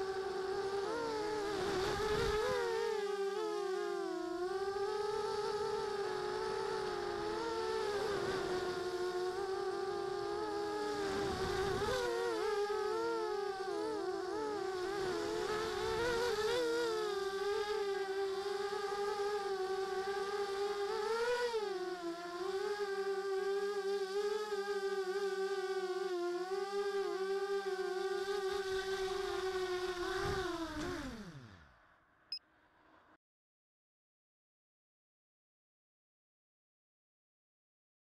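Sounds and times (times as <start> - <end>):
drone motors whining: 0.0 - 31.7.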